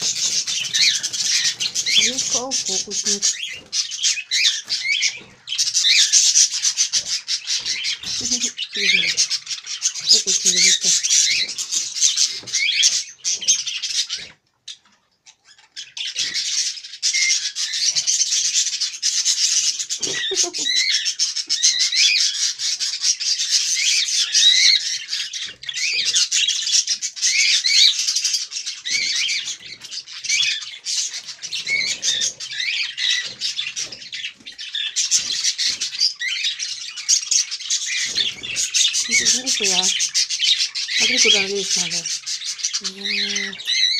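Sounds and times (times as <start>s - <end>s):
parrot chattering and chirping: 0.0s - 43.9s.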